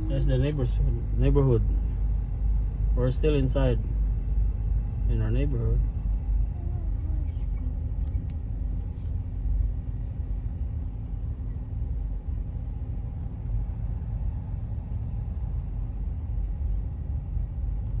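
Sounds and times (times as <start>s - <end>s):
pickup truck driving rumble: 0.0s - 18.0s.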